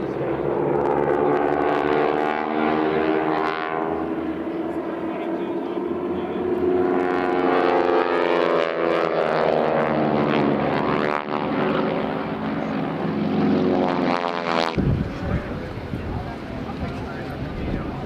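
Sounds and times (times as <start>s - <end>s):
propeller planes droning overhead: 0.0s - 18.0s.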